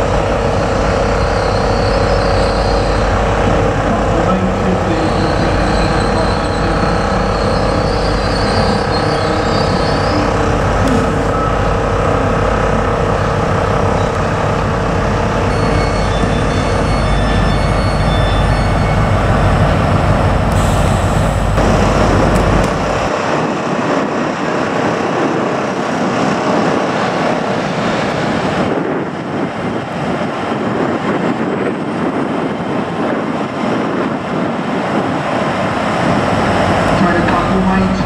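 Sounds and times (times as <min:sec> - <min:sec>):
train engine rumble: 0:00.0 - 0:38.0
train rushing noise: 0:00.0 - 0:38.0.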